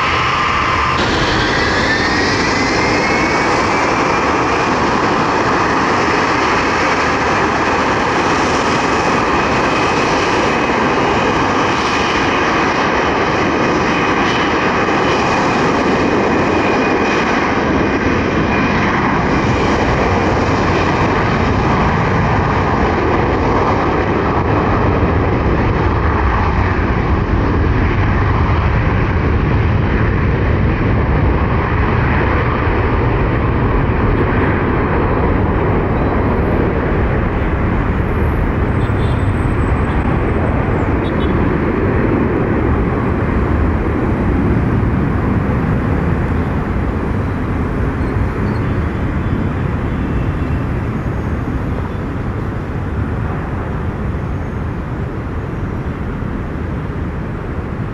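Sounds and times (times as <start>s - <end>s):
jet engines running: 0.0s - 57.9s.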